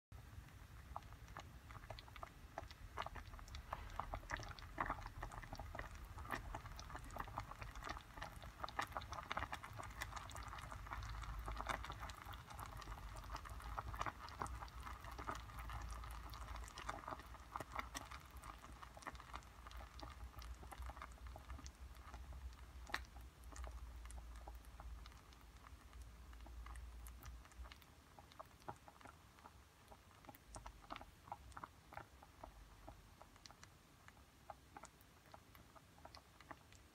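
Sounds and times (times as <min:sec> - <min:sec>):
bubbles popping in simmering pot: 0:00.2 - 0:36.9.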